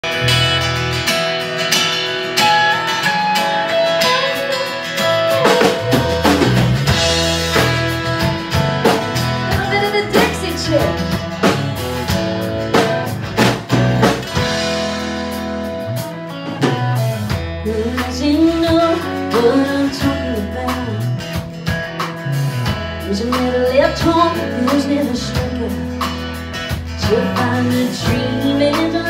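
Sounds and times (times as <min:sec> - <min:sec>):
acoustic and electric guitars: 0:00.0 - 0:29.0
bass guitar: 0:00.0 - 0:29.0
drums: 0:00.0 - 0:29.0.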